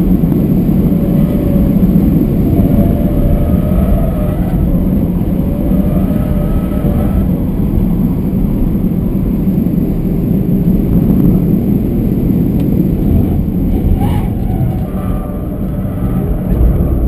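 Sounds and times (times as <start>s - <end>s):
car engine under load: 0.0s - 17.0s
tyre and road noise: 0.0s - 17.0s.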